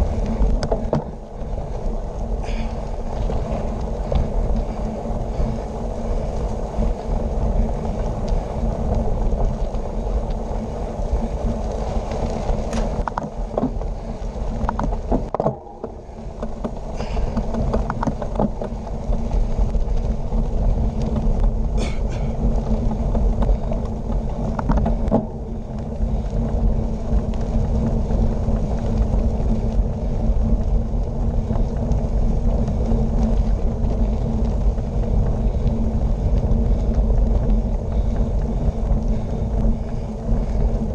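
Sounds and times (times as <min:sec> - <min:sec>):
bicycle tyres rolling on gravel: 0:00.0 - 0:40.9
bike rattling and knocking: 0:00.0 - 0:40.9
wind buffeting microphone: 0:00.0 - 0:40.9.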